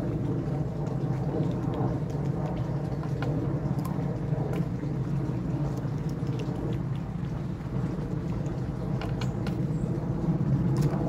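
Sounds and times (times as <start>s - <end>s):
mechanical hum and rumble: 0.0s - 11.0s.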